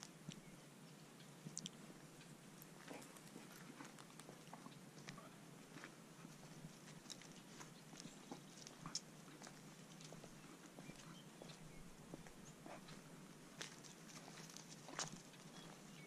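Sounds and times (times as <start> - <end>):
dog moving on dirt path: 2.6 - 16.0.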